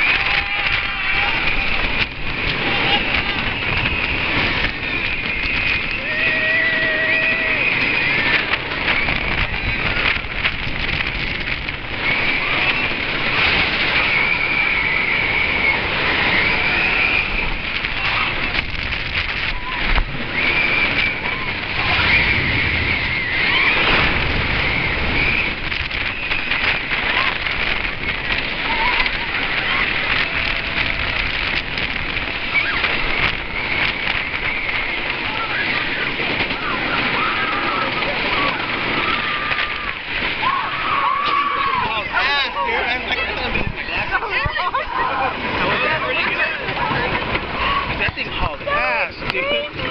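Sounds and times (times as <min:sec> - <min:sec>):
riders screaming: 0:00.0 - 0:49.9
roller coaster track rumble: 0:00.0 - 0:49.9
wind rush: 0:00.0 - 0:49.9.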